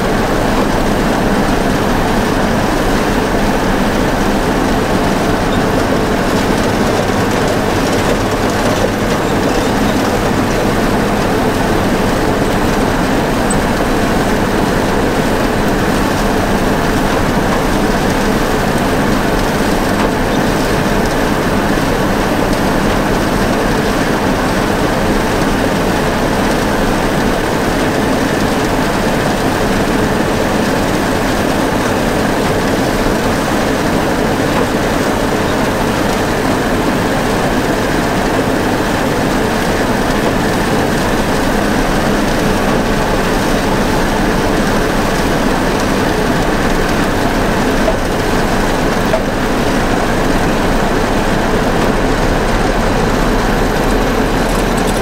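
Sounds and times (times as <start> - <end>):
tractor and forage chopper drone: 0.0 - 55.0.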